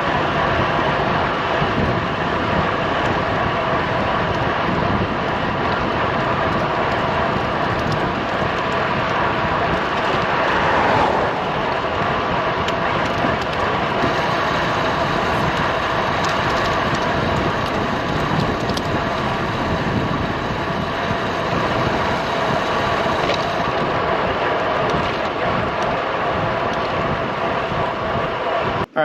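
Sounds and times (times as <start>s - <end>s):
bicycle tyre road noise: 0.0s - 29.0s
wind rush over microphone: 0.0s - 29.0s.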